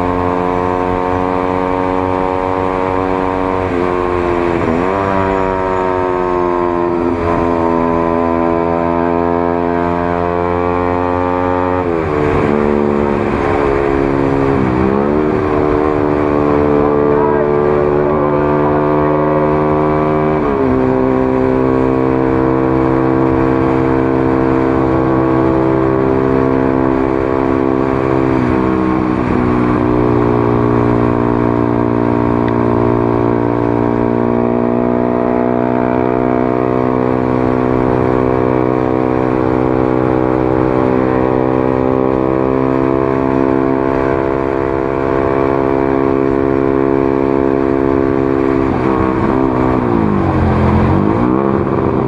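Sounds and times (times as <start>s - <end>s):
motorcycle engine exhaust note: 0.0s - 52.0s.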